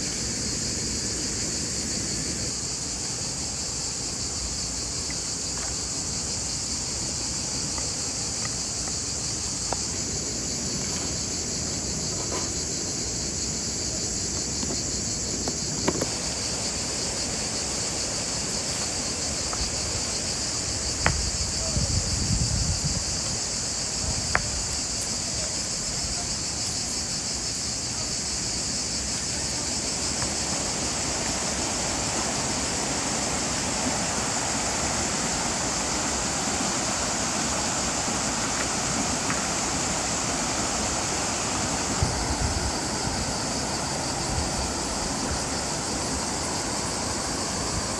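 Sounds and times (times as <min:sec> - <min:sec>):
insects chirping: 0:00.0 - 0:47.9.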